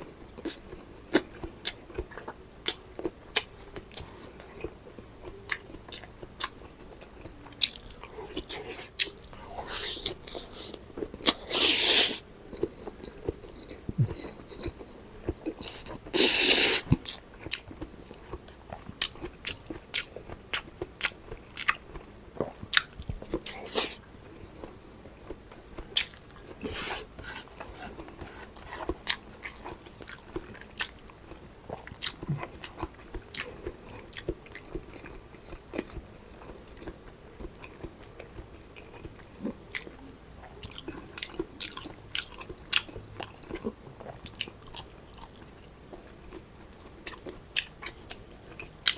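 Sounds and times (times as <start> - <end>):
person chewing with wet smacks: 0.1 - 48.9.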